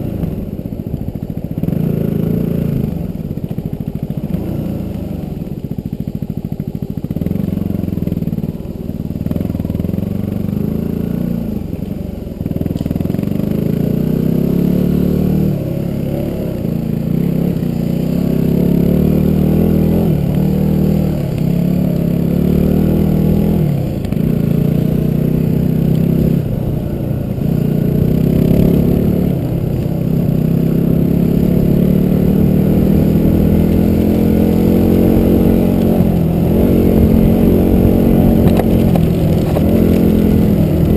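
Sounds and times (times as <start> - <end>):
vehicle engine running under load: 0.0 - 40.9.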